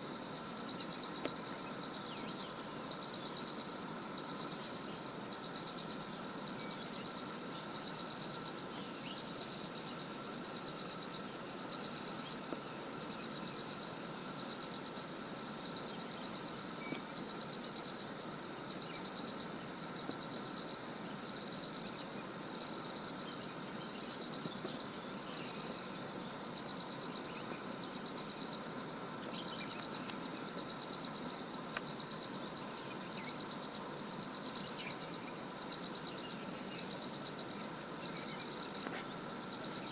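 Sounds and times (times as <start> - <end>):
high insect chirp: 0.0 - 39.9
insects trilling: 0.0 - 39.9.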